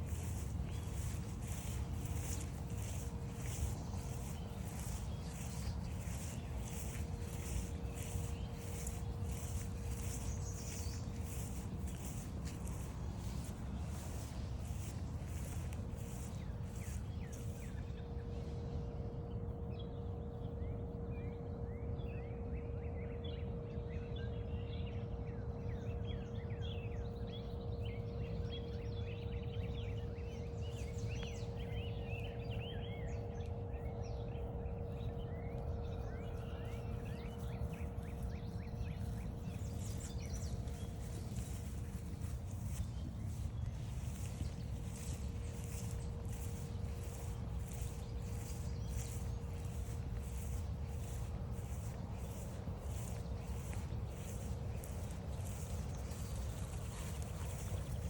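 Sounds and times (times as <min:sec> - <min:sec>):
footsteps crunching on trail: 0:00.0 - 0:18.6, 0:29.6 - 0:58.0
steady low rumble: 0:00.0 - 0:19.8, 0:28.8 - 0:58.0
songbirds chirping and singing: 0:00.0 - 0:22.2, 0:23.2 - 0:58.0
faint steady hum: 0:00.0 - 0:58.0.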